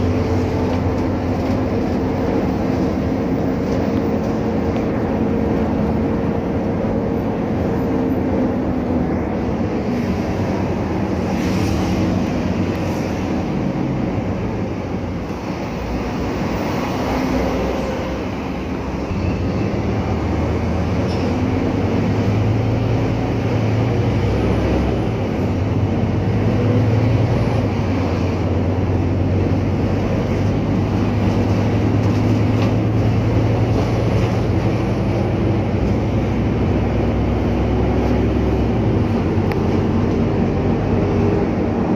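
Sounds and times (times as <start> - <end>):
bus engine hum: 0.0 - 41.9
road noise: 0.0 - 41.9.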